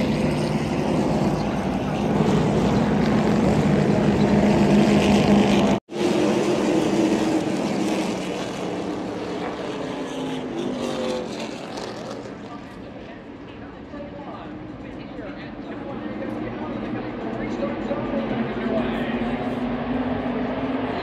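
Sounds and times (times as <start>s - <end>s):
race truck engines droning: 0.0s - 21.0s.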